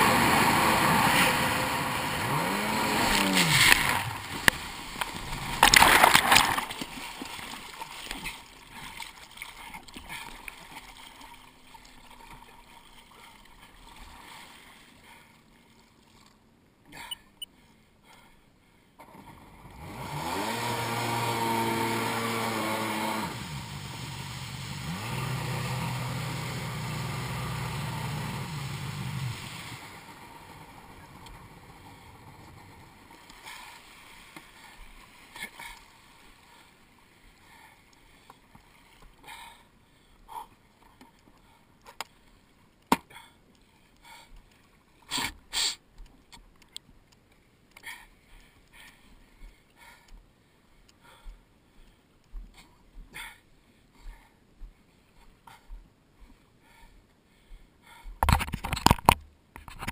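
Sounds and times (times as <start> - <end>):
personal watercraft engine: 0.0 - 51.4.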